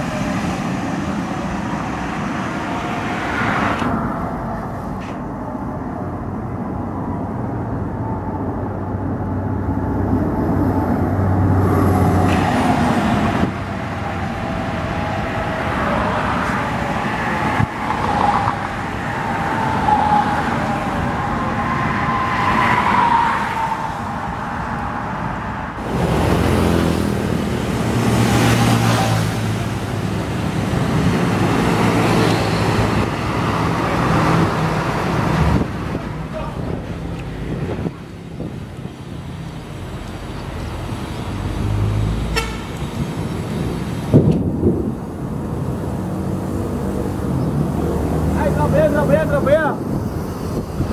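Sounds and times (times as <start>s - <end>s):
buses passing on highway: 0.0s - 50.9s.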